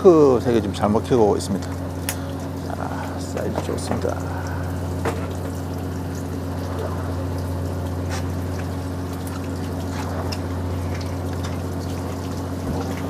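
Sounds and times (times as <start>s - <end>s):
boat motor humming: 0.0s - 13.0s
water trickling: 0.0s - 13.0s.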